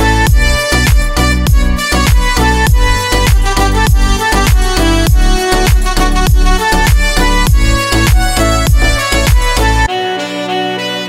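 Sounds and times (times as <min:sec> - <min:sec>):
deep kick drum beat: 0:00.0 - 0:09.9
held melodic notes: 0:00.0 - 0:11.0.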